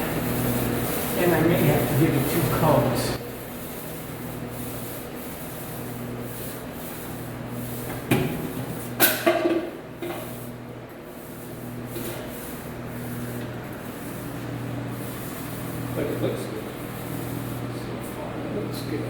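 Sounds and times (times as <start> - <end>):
paint roller rubbing on wall: 0.0 - 18.9.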